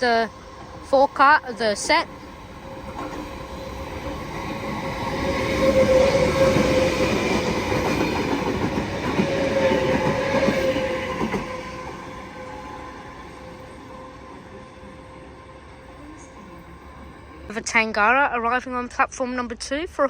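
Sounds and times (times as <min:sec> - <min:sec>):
train wheels rumbling on rails: 0:00.0 - 0:18.2
train whine: 0:00.0 - 0:18.6.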